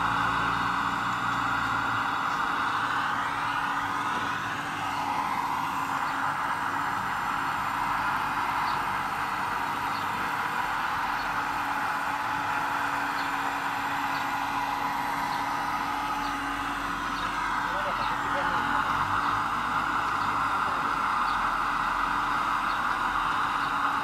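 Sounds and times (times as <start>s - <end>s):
model excavator motor whine: 0.0s - 24.0s.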